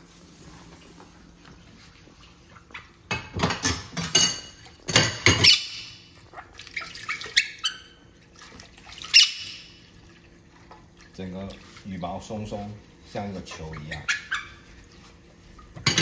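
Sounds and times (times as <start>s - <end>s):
water splashing in a metal sink: 1.7s - 16.0s.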